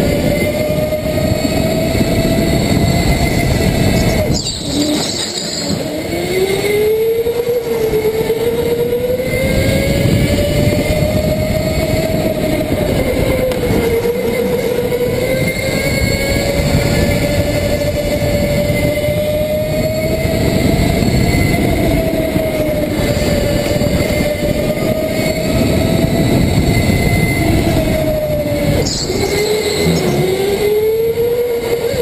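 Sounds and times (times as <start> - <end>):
go-kart engine revving: 0.0 - 32.0.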